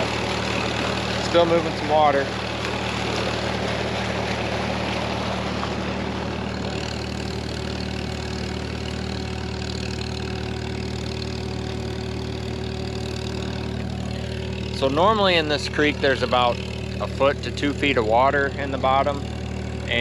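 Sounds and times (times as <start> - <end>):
tractor engine running: 0.0 - 20.0
water gushing from pipe: 0.0 - 20.0.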